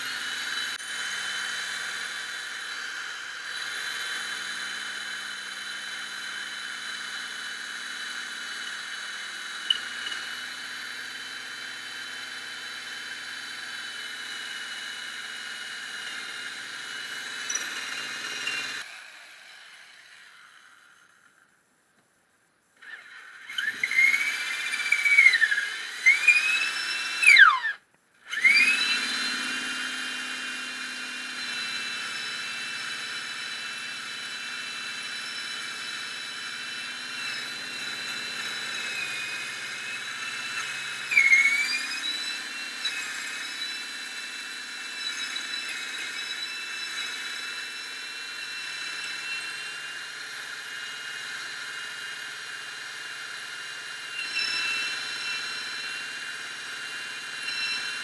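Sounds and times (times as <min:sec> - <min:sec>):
power tool motor whining on wood: 0:00.0 - 0:21.3, 0:22.8 - 0:58.0.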